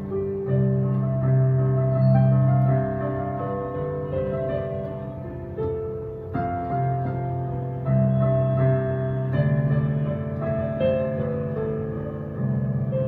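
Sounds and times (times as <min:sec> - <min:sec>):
electronic keyboard melody: 0:00.0 - 0:13.0.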